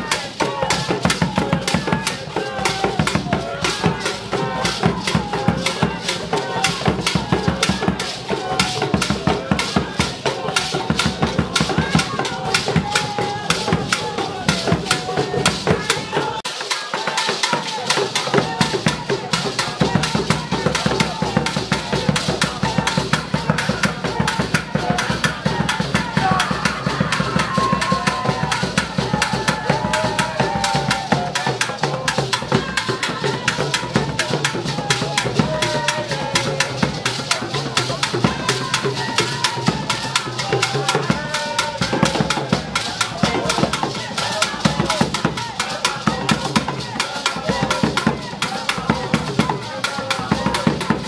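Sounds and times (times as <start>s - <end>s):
hand drums fast rhythm: 0.0s - 51.0s.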